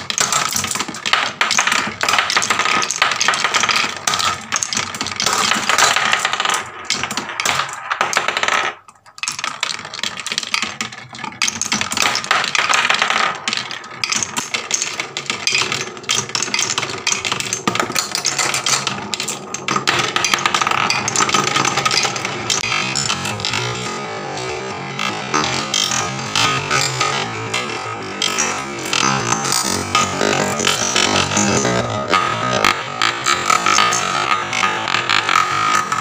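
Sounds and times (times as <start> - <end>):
marbles clattering down wooden run: 0.0 - 36.0.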